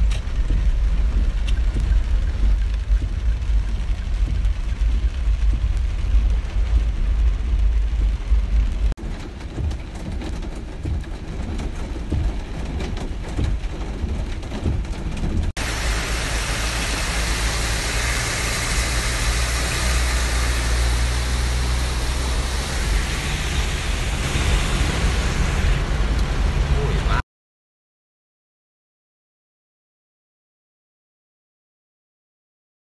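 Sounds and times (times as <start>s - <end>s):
heavy rain on a car: 0.0s - 27.2s
low engine rumble: 0.0s - 27.2s.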